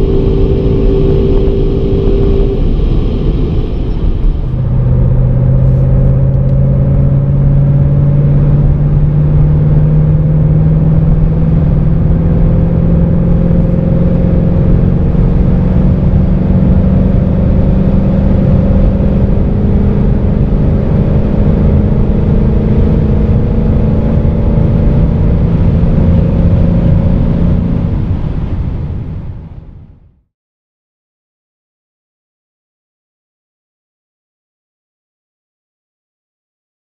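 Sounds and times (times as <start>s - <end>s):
car engine at full throttle: 0.0s - 29.9s.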